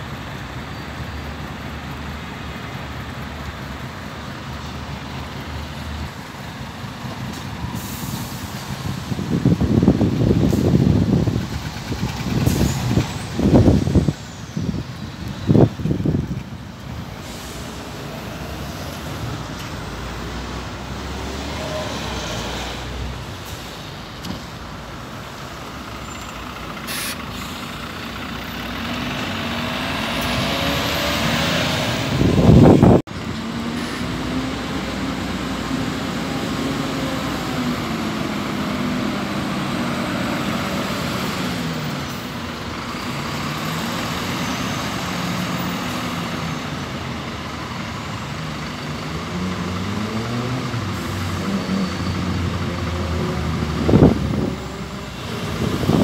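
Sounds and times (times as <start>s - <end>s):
bus engines pulling away: 0.0s - 56.0s.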